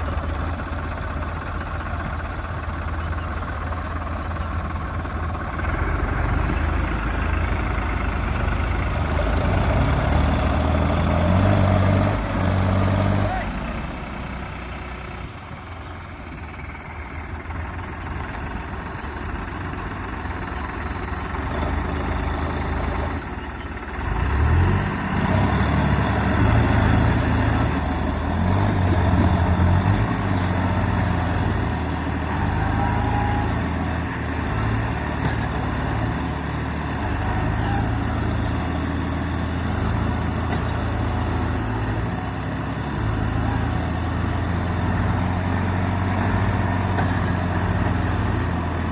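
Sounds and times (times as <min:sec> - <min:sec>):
tractor diesel engine revving: 0:00.0 - 0:48.9.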